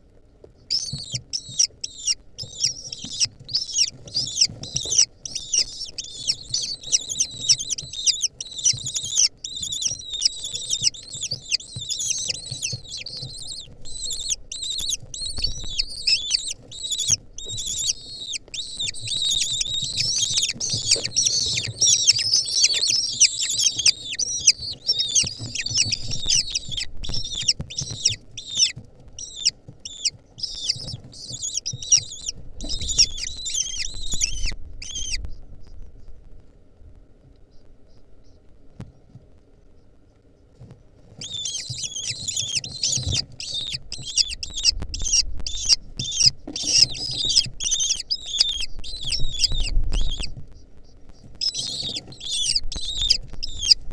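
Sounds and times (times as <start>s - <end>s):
nestlings begging calls: 0.7s - 35.8s, 41.2s - 53.9s.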